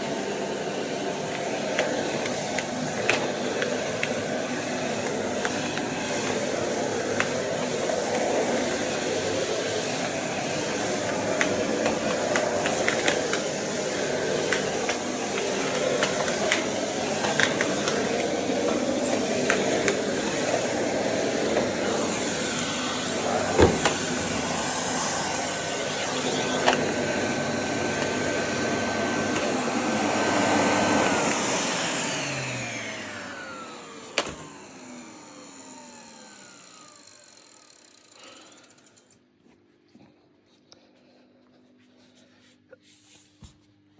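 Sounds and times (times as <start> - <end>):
vacuum cleaner running: 0.0 - 39.2
motor winding down whine: 1.1 - 39.2.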